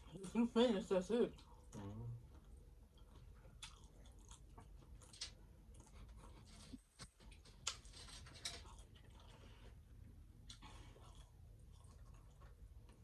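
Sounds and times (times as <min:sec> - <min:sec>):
chewing crunchy taco shells: 0:00.0 - 0:13.0.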